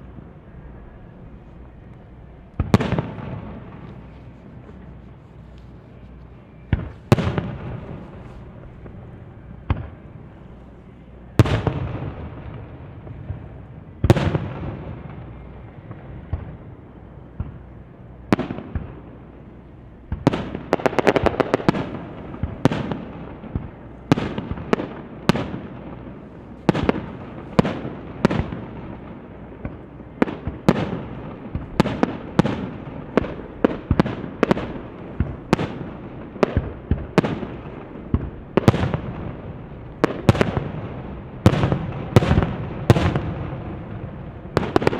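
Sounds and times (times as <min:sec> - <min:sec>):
fireworks crackling: 0:01.2 - 0:16.6, 0:20.1 - 0:44.9.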